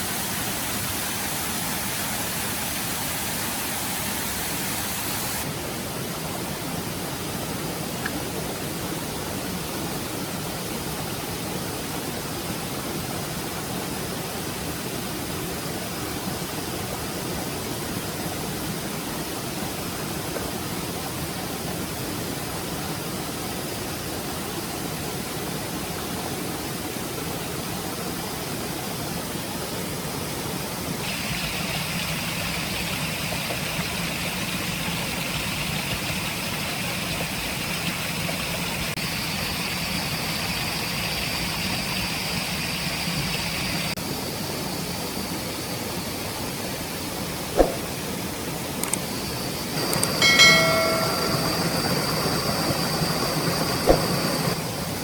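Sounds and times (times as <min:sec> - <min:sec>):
stream water running: 0:00.0 - 0:28.2, 0:28.8 - 0:55.0.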